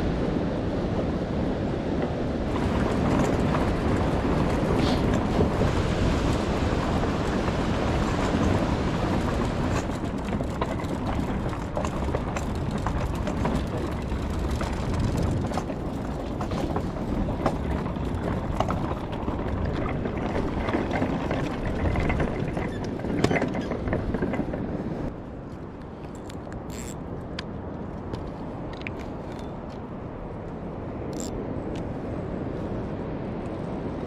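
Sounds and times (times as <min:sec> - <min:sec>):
wind buffeting microphone: 0:00.0 - 0:34.0
footsteps on wooden planks: 0:02.6 - 0:29.9.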